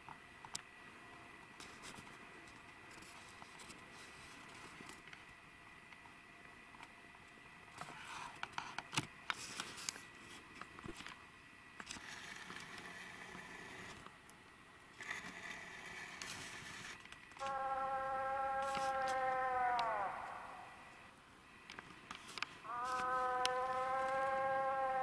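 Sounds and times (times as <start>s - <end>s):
faint high whine: 0.0s - 25.0s.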